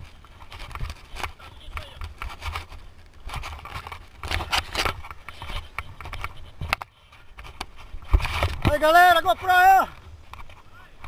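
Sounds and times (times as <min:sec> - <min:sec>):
bike rattling and clicking: 0:00.0 - 0:11.0.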